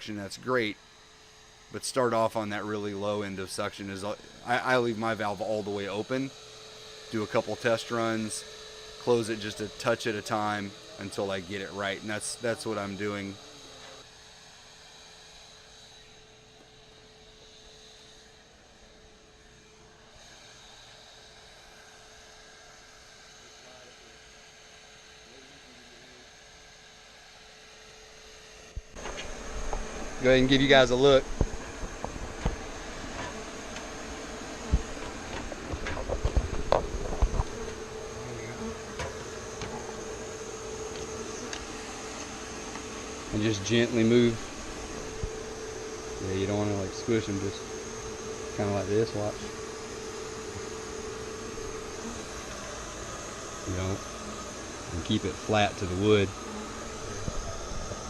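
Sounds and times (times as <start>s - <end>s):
honey bees buzzing: 0.0s - 22.2s, 28.2s - 58.0s
shop vacuum humming and whining: 0.0s - 58.0s.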